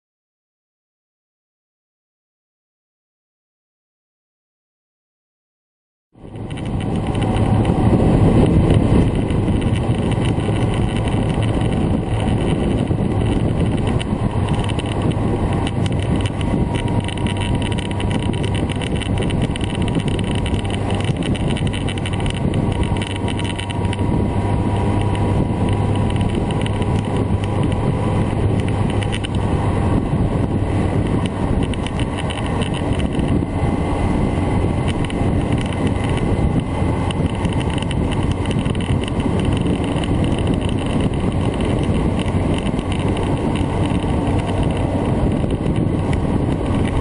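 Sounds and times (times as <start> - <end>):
motorcycle engine cruising: 6.2 - 47.0
wind over microphone: 6.2 - 47.0.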